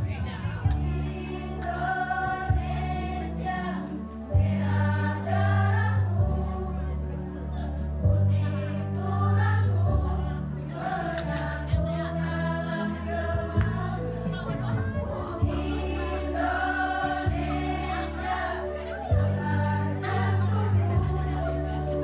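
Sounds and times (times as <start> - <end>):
women's choir singing: 0.6 - 22.0.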